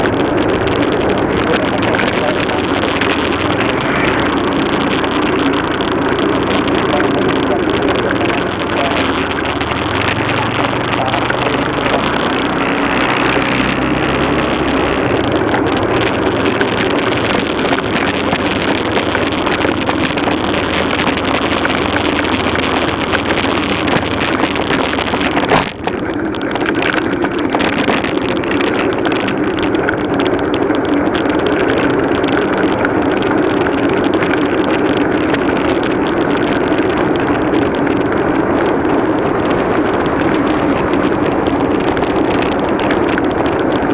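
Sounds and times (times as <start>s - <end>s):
motorcycle engine running: 0.0s - 43.9s
wind over microphone: 0.0s - 43.9s.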